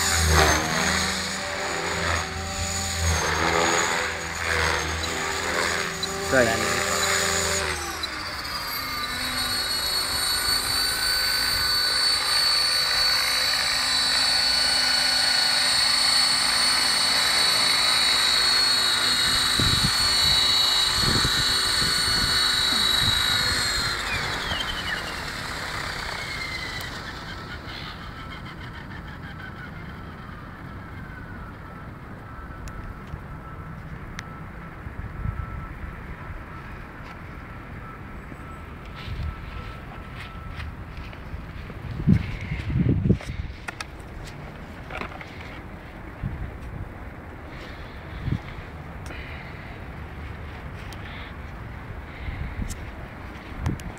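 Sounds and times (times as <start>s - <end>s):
helicopter motor and rotor whine: 0.0s - 53.9s.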